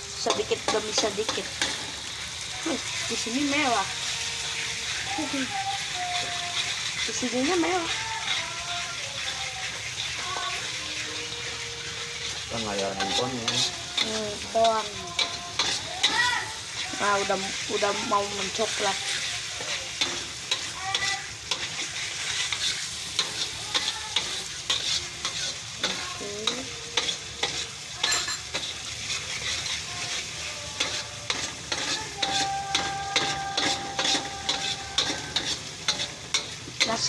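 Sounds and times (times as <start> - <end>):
onions sizzling in oil: 0.0 - 37.0
utensil scraping pan: 6.2 - 37.0.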